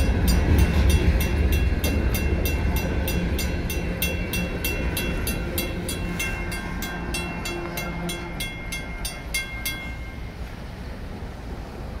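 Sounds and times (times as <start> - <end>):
crossing bell ringing: 0.0 - 10.5
train wheels rumbling on rails: 0.0 - 12.0.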